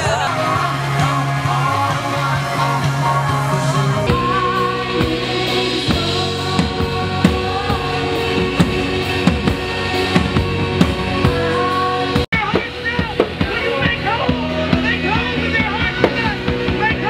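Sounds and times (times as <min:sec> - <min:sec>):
drums keeping steady beat: 0:00.0 - 0:17.0
worship band music: 0:00.0 - 0:17.0.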